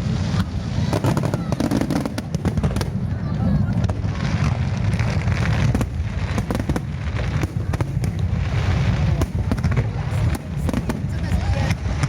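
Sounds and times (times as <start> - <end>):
fireworks cracks and crackles: 0.0 - 12.0.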